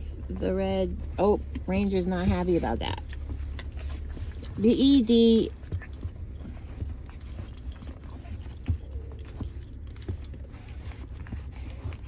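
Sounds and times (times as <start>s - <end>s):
puppies scuffling: 0.0s - 12.0s.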